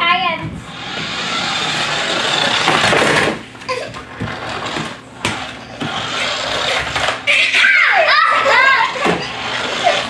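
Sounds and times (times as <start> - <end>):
toy motor and wheels whirring: 0.7 - 3.4, 4.1 - 10.0.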